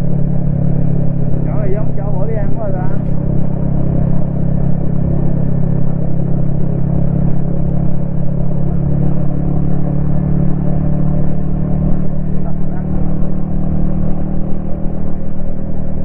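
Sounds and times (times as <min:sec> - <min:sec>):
motorcycle engine cruising: 0:00.0 - 0:16.0
road and wind noise: 0:00.0 - 0:16.0.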